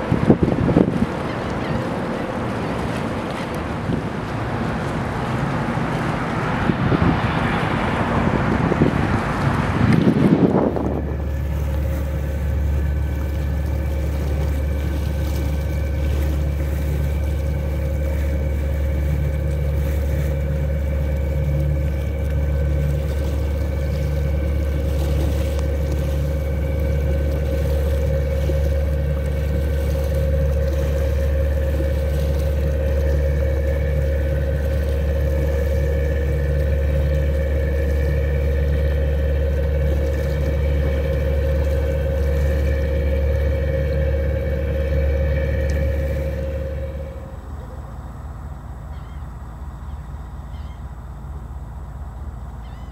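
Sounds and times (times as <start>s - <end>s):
boat engine rumbling: 0.0s - 52.9s.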